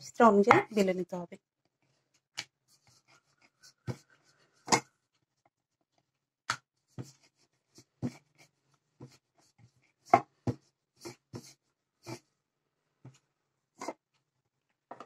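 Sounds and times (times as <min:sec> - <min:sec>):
dough rubbing: 0:01.7 - 0:14.1.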